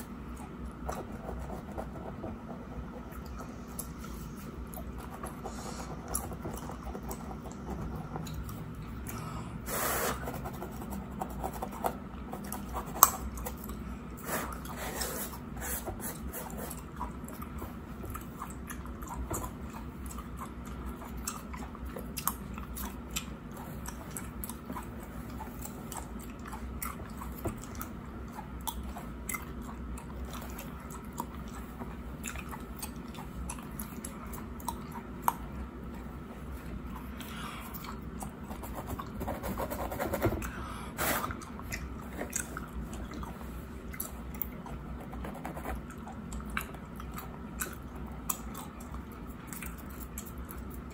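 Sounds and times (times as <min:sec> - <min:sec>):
gum chewing smacks: 0:02.2 - 0:39.2, 0:40.4 - 0:50.9.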